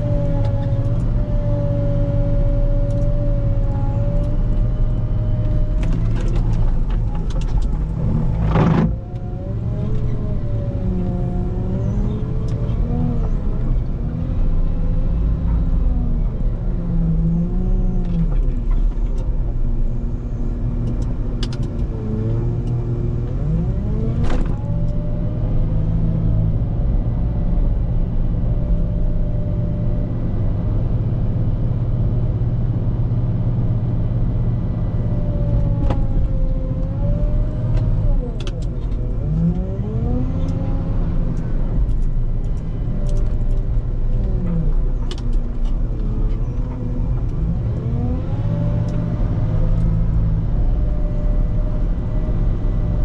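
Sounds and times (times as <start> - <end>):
wheel loader diesel rumble: 0.0 - 53.0.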